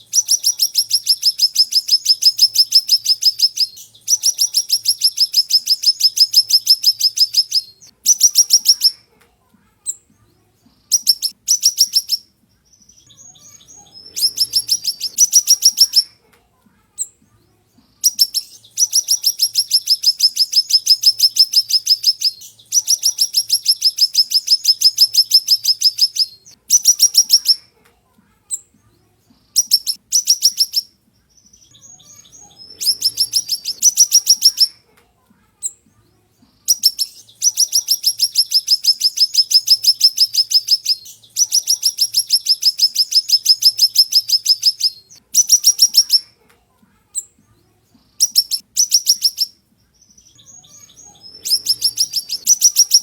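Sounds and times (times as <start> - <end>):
bird trilling: 0.0 - 9.0, 10.9 - 12.3, 12.9 - 16.1, 18.0 - 27.6, 29.6 - 34.8, 36.7 - 46.3, 48.2 - 53.0
soft bird chirps: 0.0 - 27.8, 28.4 - 34.9, 35.5 - 53.0.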